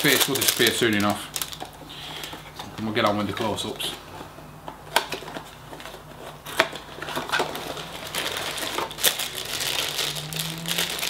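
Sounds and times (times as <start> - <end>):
foil bag crinkling: 0.0 - 3.8, 5.8 - 11.0.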